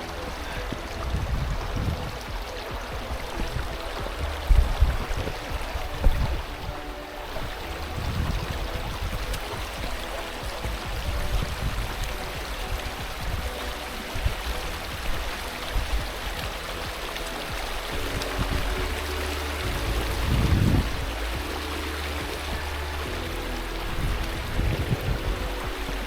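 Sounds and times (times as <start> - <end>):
low rumbling: 0.0 - 26.0
river water rushing over rocks: 0.0 - 26.0.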